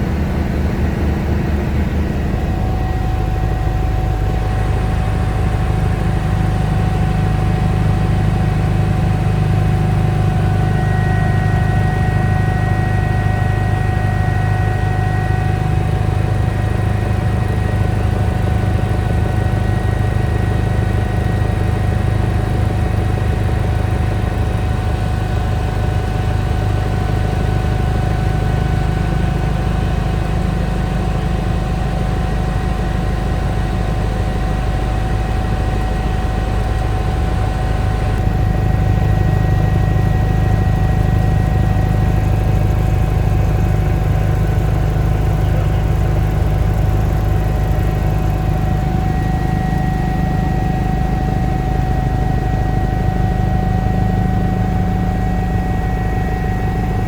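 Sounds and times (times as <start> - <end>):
helicopter rotor drone: 0.0 - 57.0
high turbine whine: 0.0 - 57.0.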